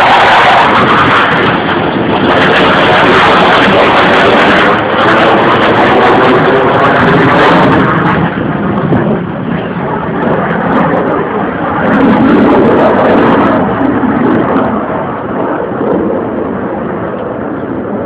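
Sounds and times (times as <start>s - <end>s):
jet planes flying overhead: 0.0s - 18.0s.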